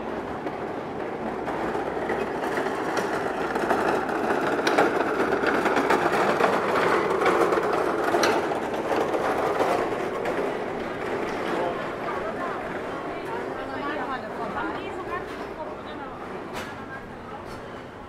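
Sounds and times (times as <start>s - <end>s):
busy street noise: 0.0s - 18.0s.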